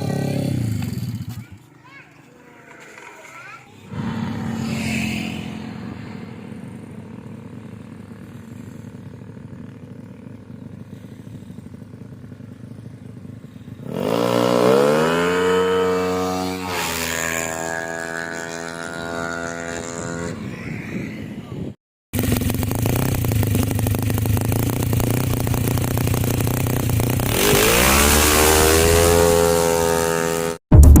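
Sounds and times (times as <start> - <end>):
scooter engine idling and revving: 0.0 - 31.0.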